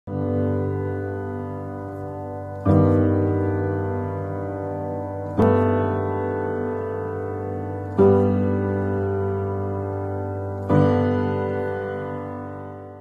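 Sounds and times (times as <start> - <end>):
slow piano chords: 0.1 - 13.0.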